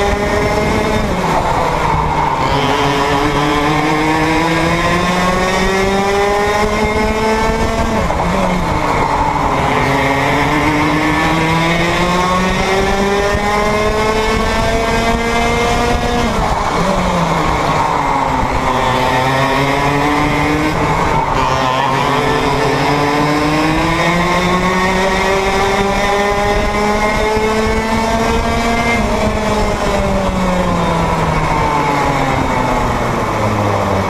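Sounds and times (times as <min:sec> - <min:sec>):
kart two-stroke engine revving: 0:00.0 - 0:34.0.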